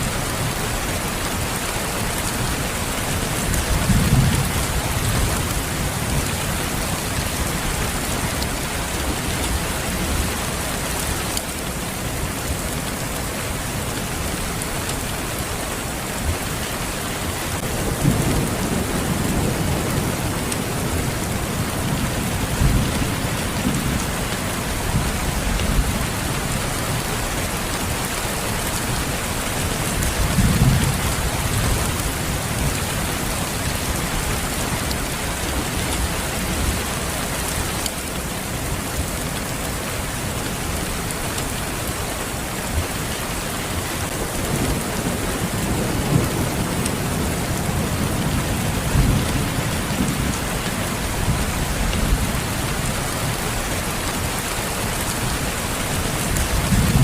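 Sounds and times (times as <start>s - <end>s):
dense rain pattering: 0.0s - 57.0s.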